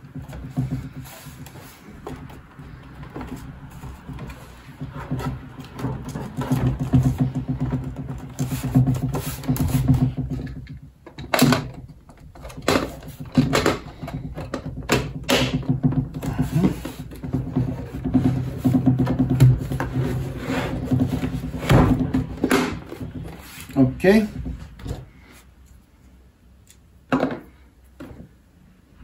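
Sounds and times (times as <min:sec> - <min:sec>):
plastic case knocks and clicks: 0:00.1 - 0:23.3.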